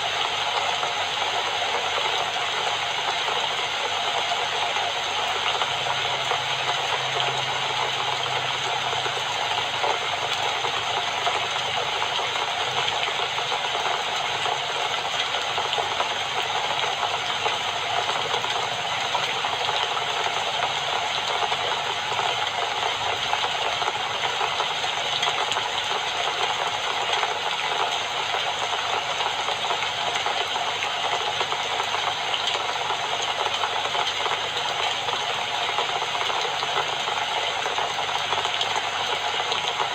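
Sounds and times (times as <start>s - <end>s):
steady dense rain: 0.0s - 39.9s.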